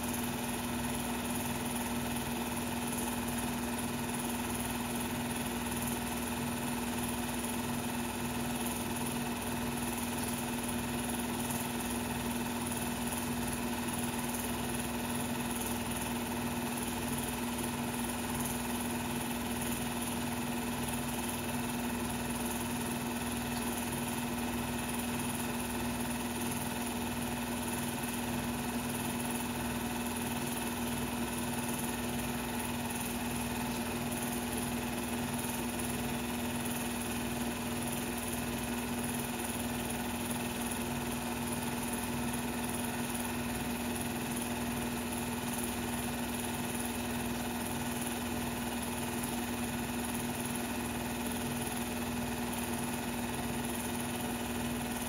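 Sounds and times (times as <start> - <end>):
film projector running: 0.0 - 55.0.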